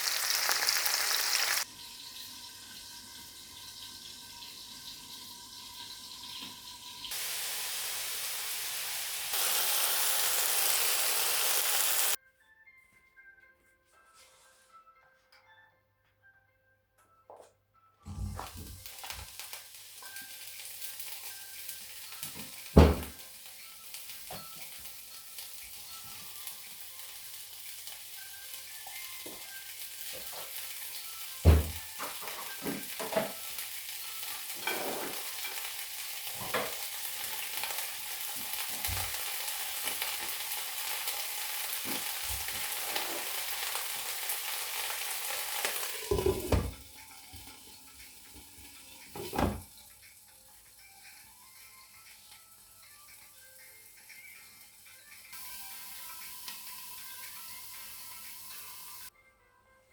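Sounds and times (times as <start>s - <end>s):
cooking hiss: 0.0s - 12.2s, 18.2s - 59.1s
food sizzling in a pan: 0.0s - 12.2s, 18.3s - 59.1s.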